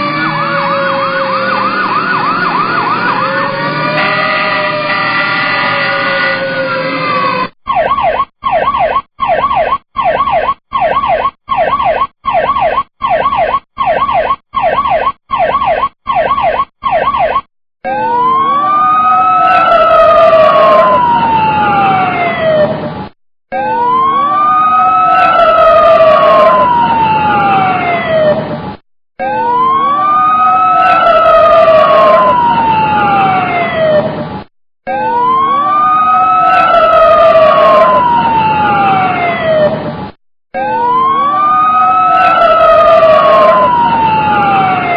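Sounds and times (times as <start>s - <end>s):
siren yelps and wail: 0.0s - 28.6s, 29.2s - 34.2s, 34.8s - 39.9s, 40.5s - 44.9s.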